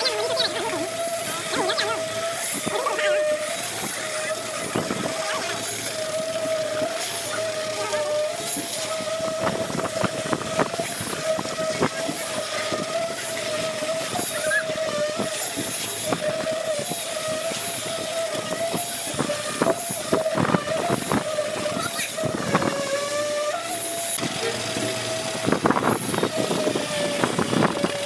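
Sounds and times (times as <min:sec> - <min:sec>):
concrete pump whining: 0:00.0 - 0:28.0.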